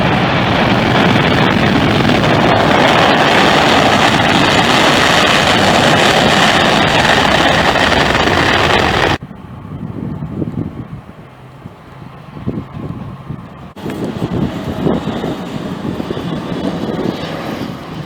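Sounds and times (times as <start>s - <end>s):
jet airliner engine noise: 0.0s - 18.0s.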